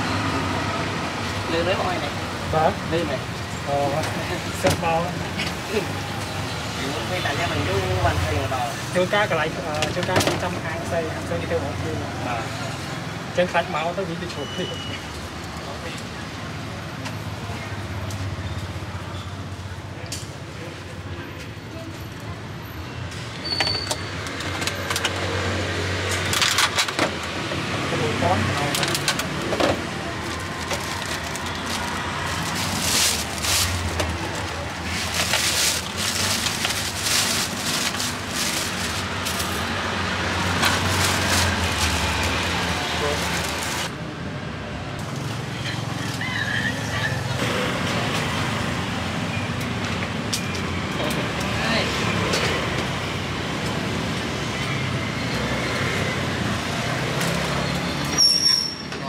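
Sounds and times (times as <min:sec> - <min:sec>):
passing vehicles: 0:00.0 - 0:59.0.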